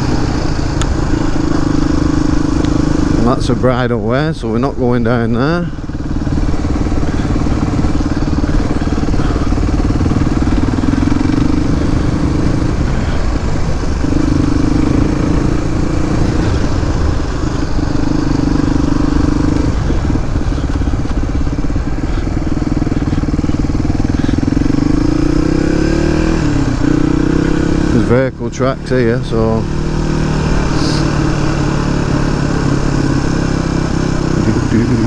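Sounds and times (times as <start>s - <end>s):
motorcycle exhaust revving: 0.0s - 35.0s.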